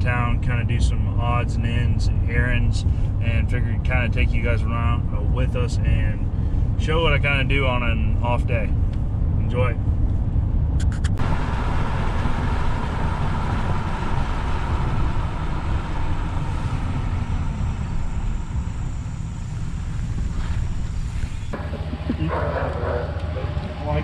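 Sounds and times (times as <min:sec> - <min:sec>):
truck engine and tyre rumble: 0:00.0 - 0:24.0.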